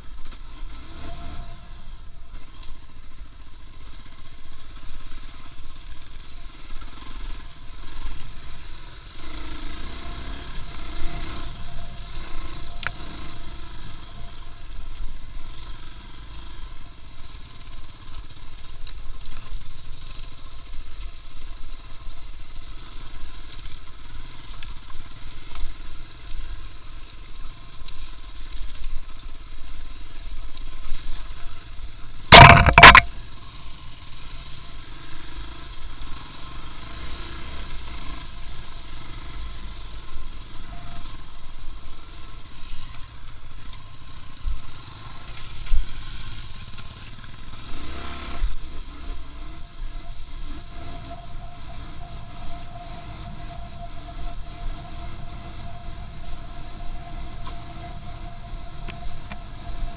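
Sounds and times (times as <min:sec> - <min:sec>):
vehicle engine and road rumble: 0:00.0 - 0:59.9.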